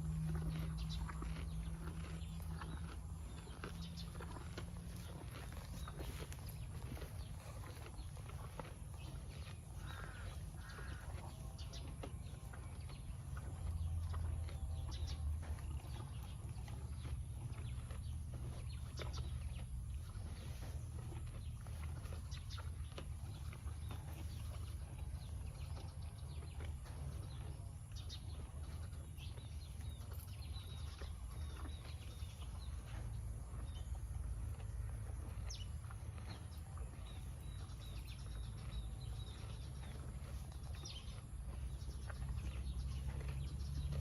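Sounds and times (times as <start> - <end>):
birds chirping: 0.0 - 44.0
steady low rumble: 0.0 - 44.0.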